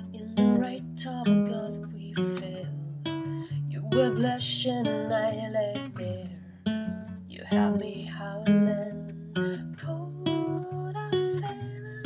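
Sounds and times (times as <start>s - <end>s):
woman singing softly: 0.0s - 6.4s, 7.3s - 12.0s
classical guitar fingerpicked: 0.0s - 12.0s.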